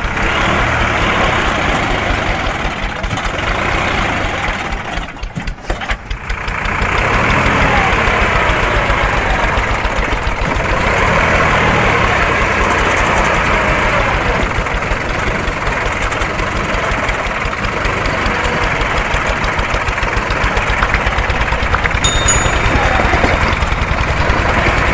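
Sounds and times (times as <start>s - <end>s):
vehicle engine idling: 0.0s - 24.9s.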